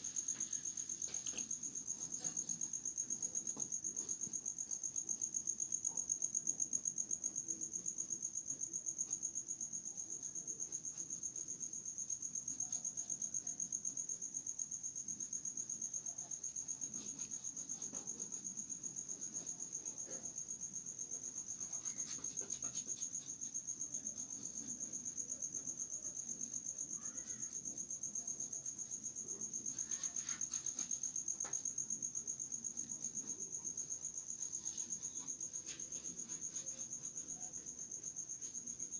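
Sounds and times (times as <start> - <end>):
cricket trilling: 0.0 - 38.9.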